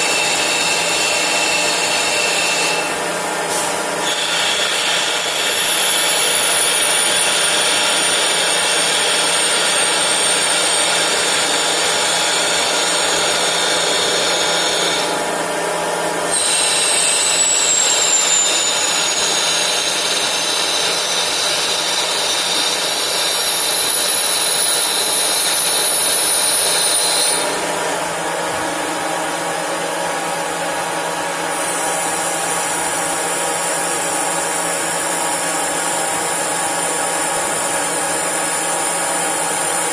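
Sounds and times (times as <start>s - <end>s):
lathe cutting noise: 0.0s - 39.9s.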